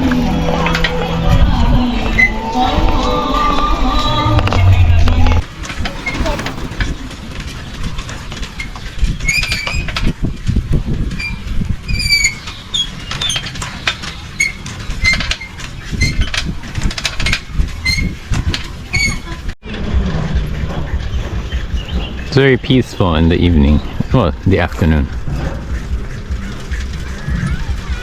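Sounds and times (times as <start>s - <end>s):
low road rumble: 0.0s - 28.0s
bicycle rattling and squeaking: 0.2s - 28.0s.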